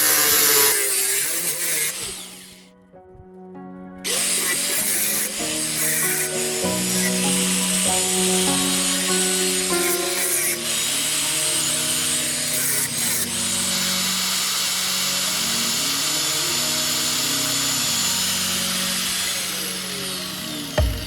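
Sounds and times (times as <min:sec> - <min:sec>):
power tool hissing: 0:00.0 - 0:02.7, 0:04.1 - 0:21.0
background music: 0:00.0 - 0:21.0.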